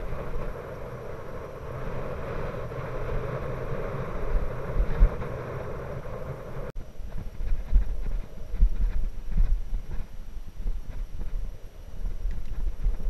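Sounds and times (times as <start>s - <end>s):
bicycle tyres on gravelly asphalt: 0.0s - 13.0s
low bumps: 0.0s - 13.0s
wind rushing: 0.0s - 13.0s.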